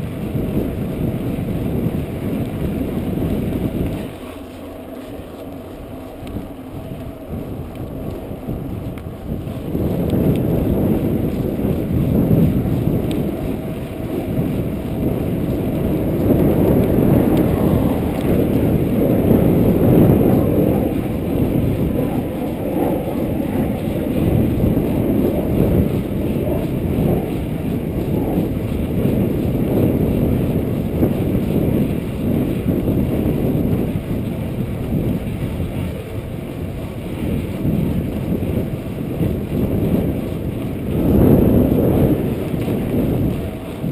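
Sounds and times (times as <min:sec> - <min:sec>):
tyre noise on pavement: 0:00.0 - 0:43.9
wind buffeting microphone: 0:00.0 - 0:43.9.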